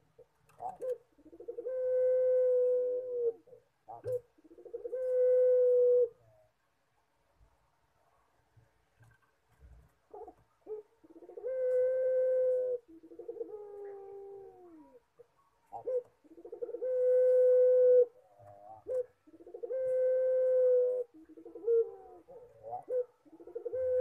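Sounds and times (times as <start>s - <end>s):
dove cooing: 0.0s - 6.4s, 10.1s - 24.0s.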